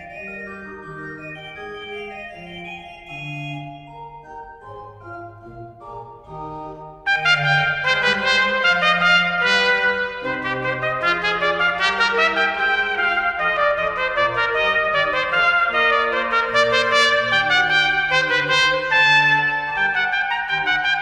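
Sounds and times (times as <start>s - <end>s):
background music with held notes: 0.0s - 21.0s.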